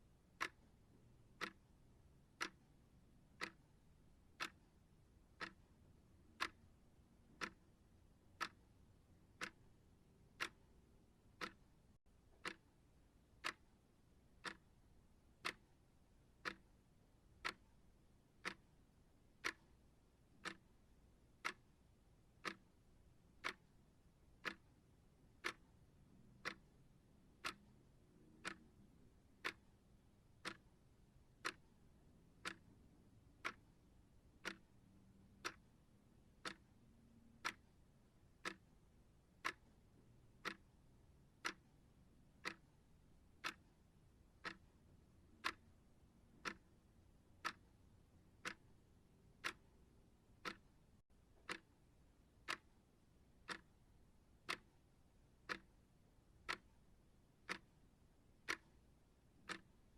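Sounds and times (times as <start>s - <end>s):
clock ticking: 0.1s - 59.9s.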